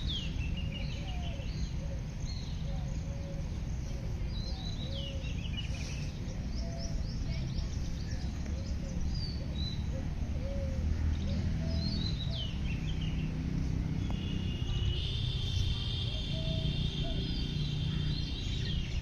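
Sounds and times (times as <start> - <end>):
birds chirping and singing: 0.0 - 19.0.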